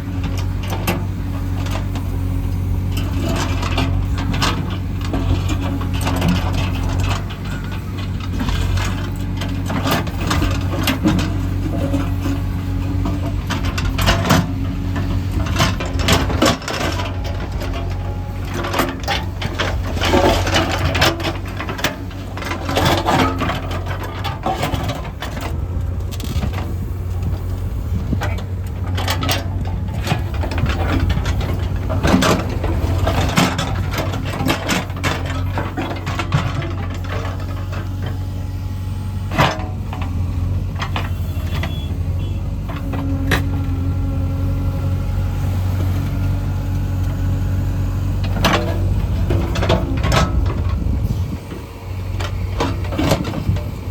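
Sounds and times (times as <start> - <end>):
machine clanks and rattles: 0.0 - 38.6, 39.2 - 44.5, 45.8 - 53.9
diesel engine running: 0.0 - 53.9.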